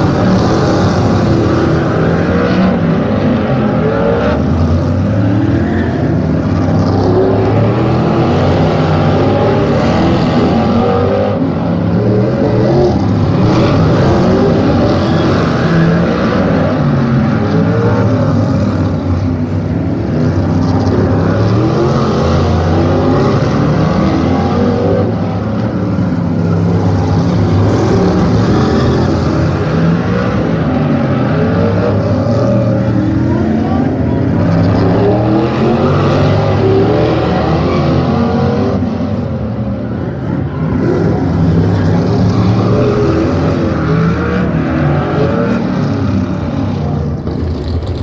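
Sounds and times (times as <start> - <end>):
racing car engines: 0.0 - 48.0.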